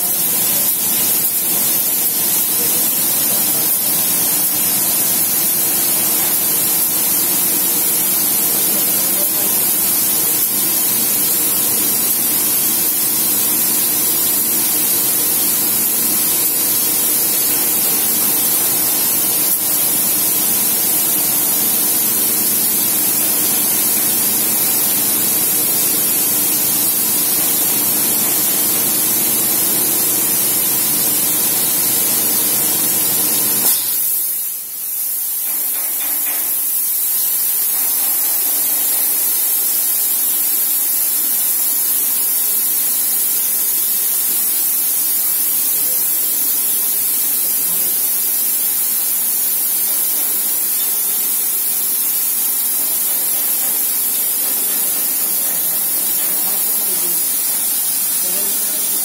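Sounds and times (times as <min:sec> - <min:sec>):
water jets hissing: 0:00.0 - 0:36.7, 0:45.9 - 0:59.0.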